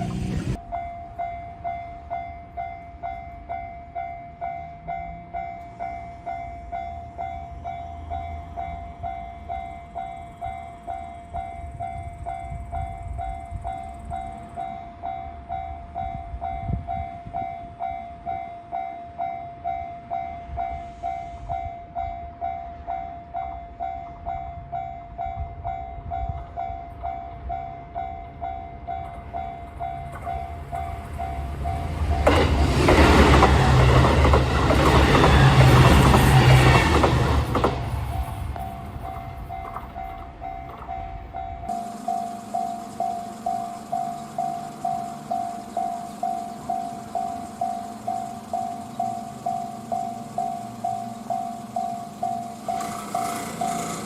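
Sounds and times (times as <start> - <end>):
railroad crossing bell ringing: 0.0 - 54.0
train rumbling: 0.0 - 54.0.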